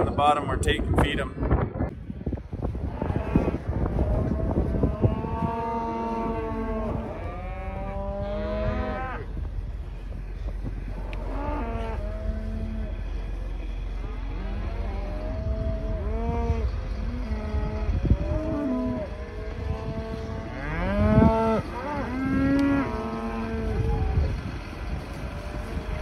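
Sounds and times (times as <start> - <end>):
low rumble: 0.0 - 26.0
cows mooing: 2.8 - 26.0.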